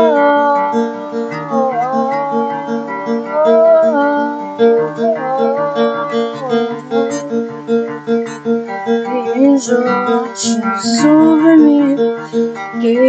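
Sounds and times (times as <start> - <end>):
picked guitar pattern: 0.0 - 13.0
sliding guitar melody: 0.0 - 13.0.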